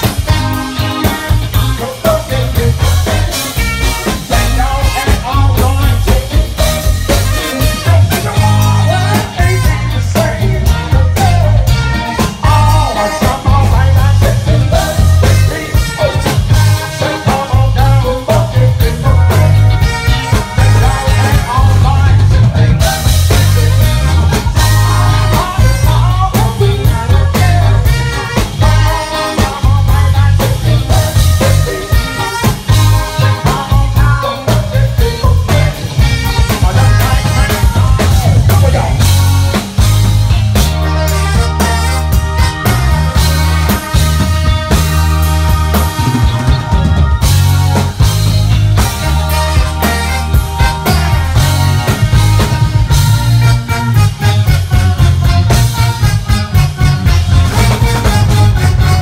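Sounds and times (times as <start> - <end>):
drum beat: 0.0 - 59.0
electric bass line: 0.0 - 59.0
keyboards: 0.0 - 59.0
trumpet: 0.0 - 59.0.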